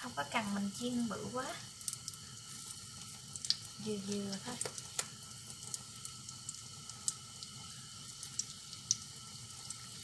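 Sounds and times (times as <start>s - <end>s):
batter frying in oil: 0.0s - 10.0s.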